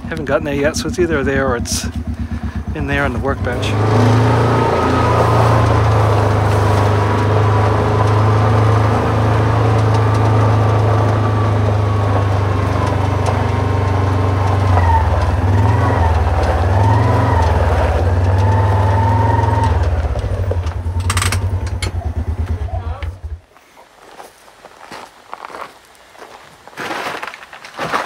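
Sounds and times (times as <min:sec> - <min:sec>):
farm vehicle engine running: 0:00.0 - 0:23.4.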